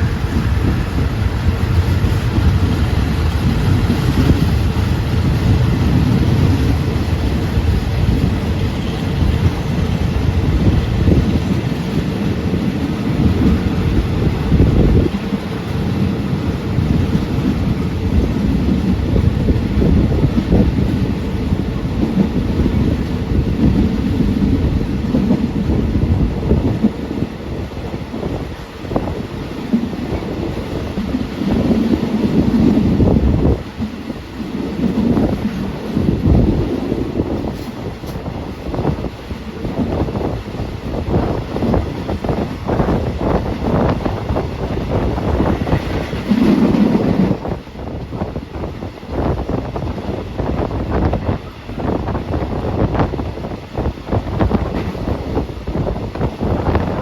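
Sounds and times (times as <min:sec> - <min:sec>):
passenger train rumbling: 0:00.0 - 0:57.0
wind buffeting microphone: 0:00.0 - 0:57.0.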